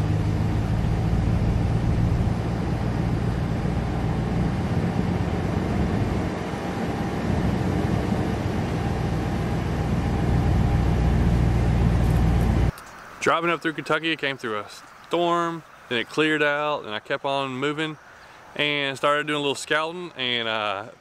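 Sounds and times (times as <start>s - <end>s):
truck engine humming: 0.0s - 20.7s.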